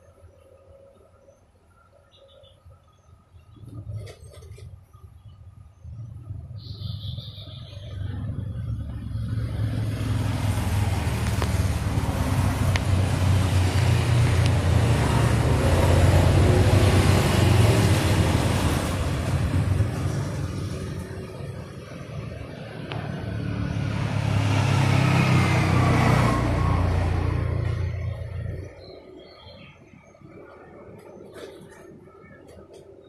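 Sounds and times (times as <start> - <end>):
vehicles passing with road rumble: 0.0 - 33.0.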